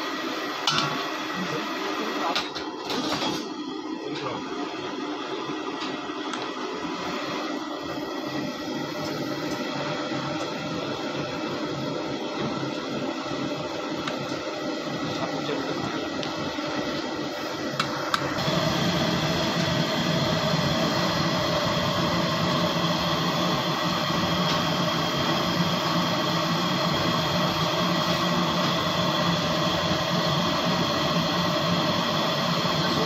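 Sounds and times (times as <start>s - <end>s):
machine motor humming: 0.0s - 33.0s.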